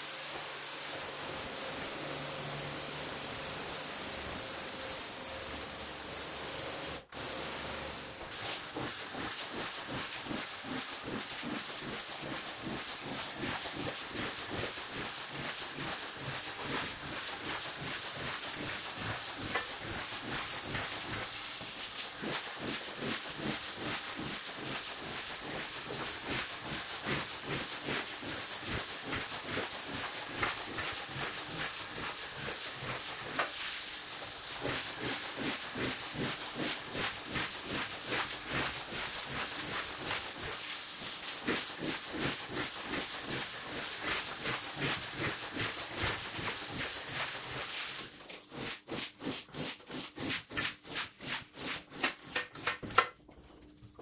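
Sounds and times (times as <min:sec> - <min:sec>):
hiss of spraying water: 0:00.0 - 0:48.0
wet brush strokes on rug: 0:06.8 - 0:51.9.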